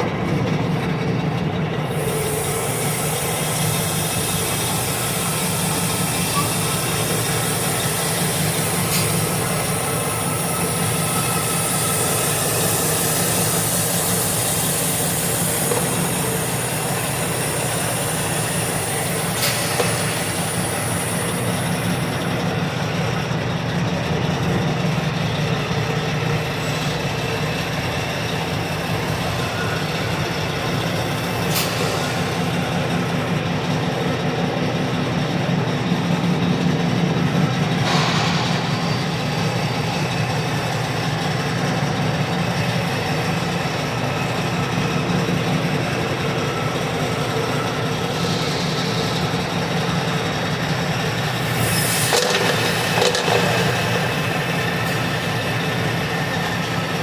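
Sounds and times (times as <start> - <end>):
truck engine humming: 0.0 - 57.0.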